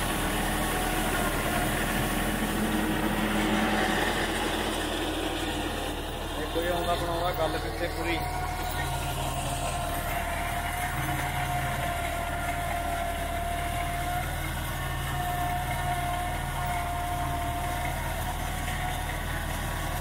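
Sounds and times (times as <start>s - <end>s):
tractor diesel engine: 0.0s - 20.0s.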